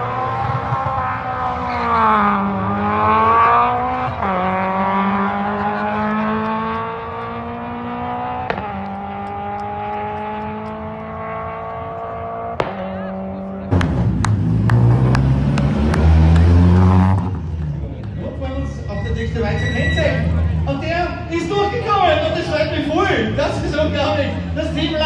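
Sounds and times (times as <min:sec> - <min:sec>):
rally car engine accelerating: 0:00.0 - 0:25.0.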